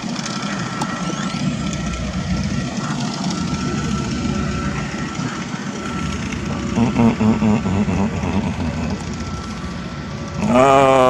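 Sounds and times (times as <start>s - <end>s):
heavy machinery engine: 0.0s - 11.0s
high whine: 0.0s - 11.0s.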